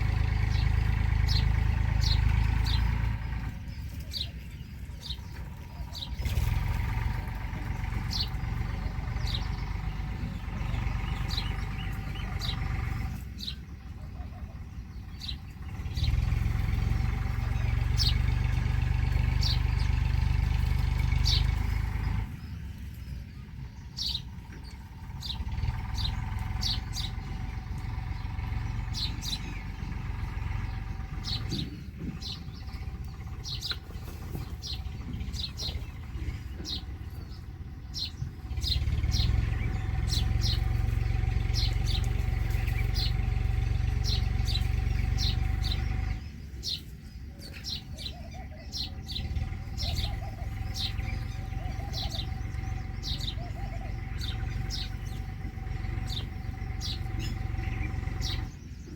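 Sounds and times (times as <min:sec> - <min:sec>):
small birds chirping: 0:00.0 - 0:58.9
steady low rumble: 0:00.0 - 0:58.9.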